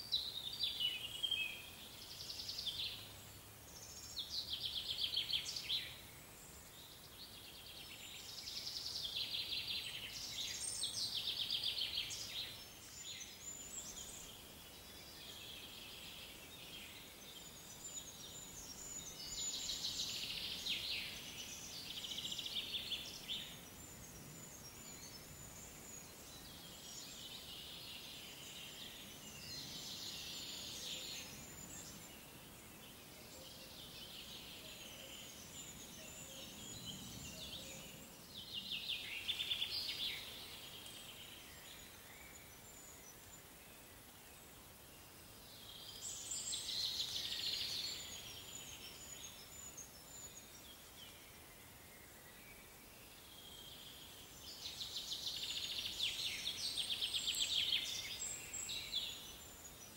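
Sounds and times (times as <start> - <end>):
faint outdoor background: 0.0 - 59.9.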